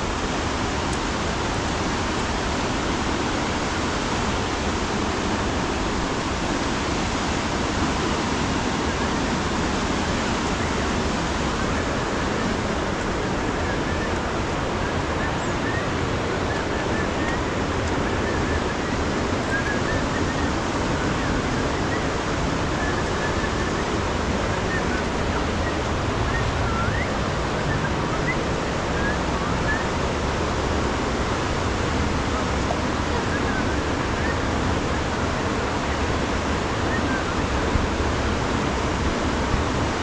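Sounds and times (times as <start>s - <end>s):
river rushing: 0.0s - 40.0s.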